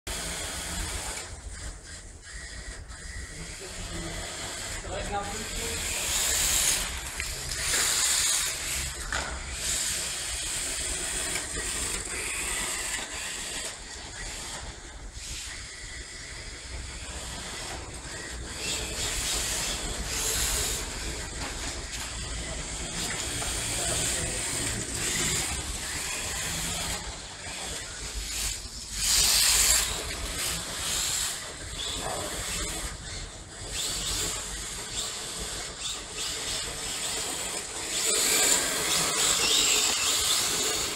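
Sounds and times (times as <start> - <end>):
rc car tyres hissing on stone: 0.2 - 40.9.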